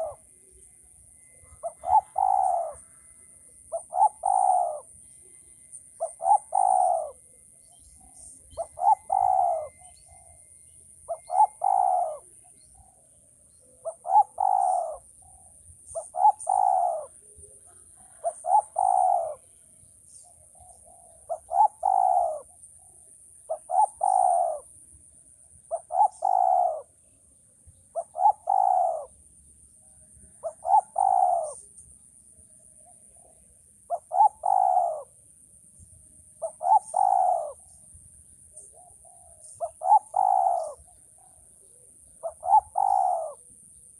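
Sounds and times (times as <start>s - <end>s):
dove cooing: 0.0s - 0.6s, 1.2s - 5.0s, 5.8s - 7.4s, 8.0s - 24.7s, 25.7s - 27.1s, 27.9s - 29.2s, 30.2s - 31.9s, 32.8s - 35.2s, 36.4s - 37.8s, 38.5s - 43.9s.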